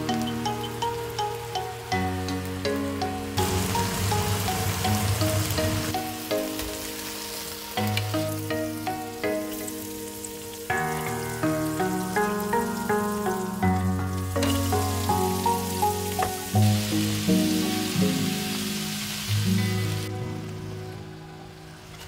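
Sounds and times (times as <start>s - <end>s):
slow melodic background music: 0.0s - 22.0s
shrimp sizzling in a wok: 2.0s - 20.1s.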